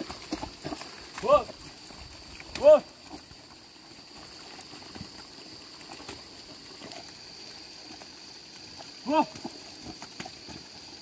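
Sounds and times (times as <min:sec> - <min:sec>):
water trickling and running: 0:00.0 - 0:11.0.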